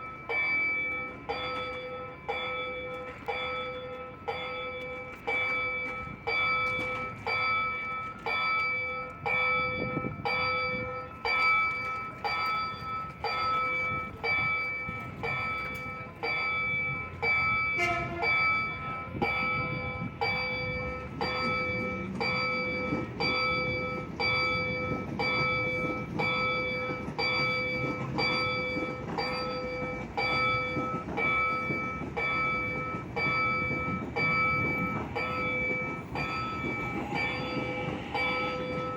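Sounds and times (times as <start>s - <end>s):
approaching train rumble: 0.0s - 38.9s
level crossing warning bell: 0.0s - 38.9s.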